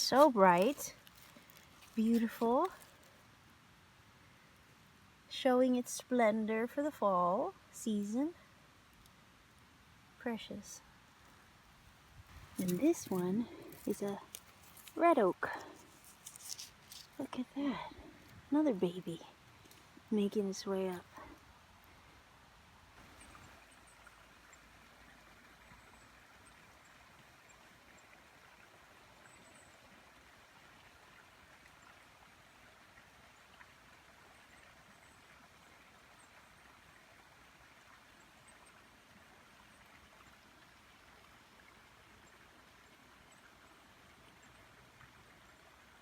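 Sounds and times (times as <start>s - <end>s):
faint outdoor hiss: 0.0s - 46.0s.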